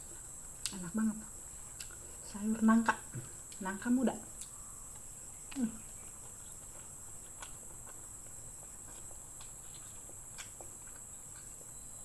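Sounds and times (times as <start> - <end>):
soft eating clicks and smacks: 0.1 - 1.0, 1.6 - 2.1, 2.8 - 12.0.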